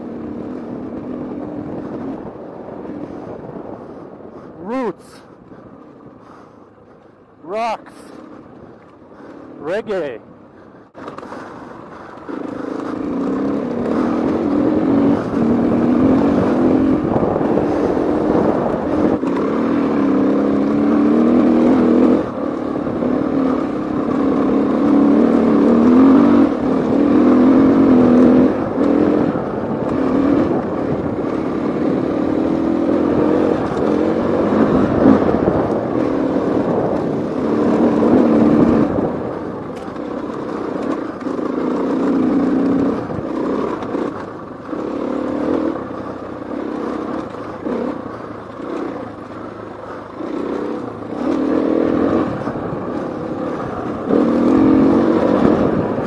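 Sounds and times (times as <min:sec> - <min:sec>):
motorcycle engine revving: 0:00.0 - 0:03.3, 0:10.9 - 0:56.0.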